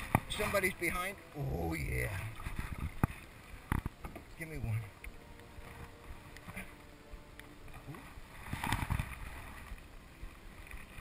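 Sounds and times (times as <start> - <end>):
paddle in water: 0.0 - 11.0
water splash: 0.0 - 11.0.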